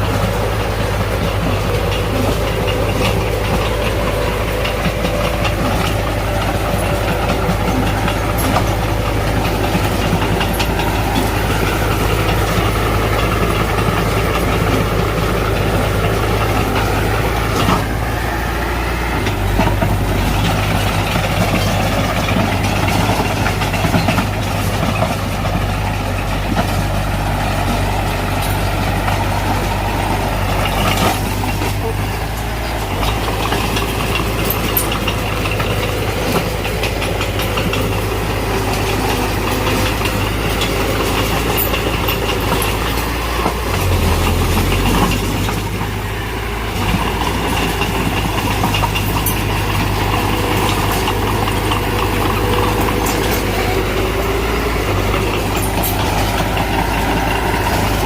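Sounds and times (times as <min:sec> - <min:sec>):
bulldozer diesel engine running: 0:00.0 - 0:58.0
machine clanking: 0:00.0 - 0:58.0.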